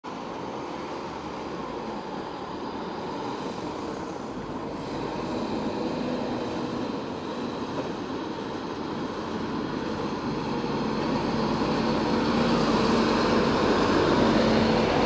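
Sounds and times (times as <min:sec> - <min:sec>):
passing van traffic: 0:00.1 - 0:15.0
truck diesel engine under load: 0:00.1 - 0:15.0.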